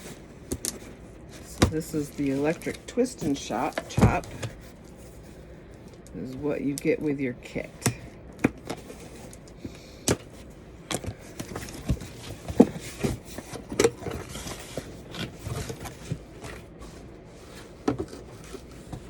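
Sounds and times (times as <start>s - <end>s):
cardboard scraping and rustling: 0.0s - 5.4s, 8.4s - 9.5s, 10.2s - 19.0s.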